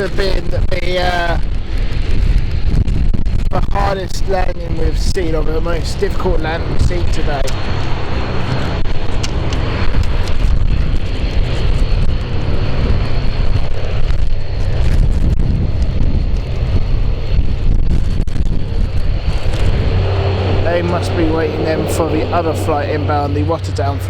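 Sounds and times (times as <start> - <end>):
gusty wind buffeting microphone: 0.0 - 24.0
faint high whine: 3.2 - 24.0.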